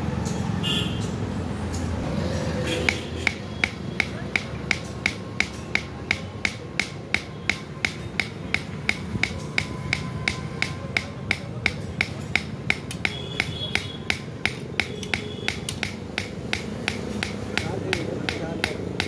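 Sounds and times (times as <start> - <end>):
hammer striking metal on anvil: 2.7 - 19.0.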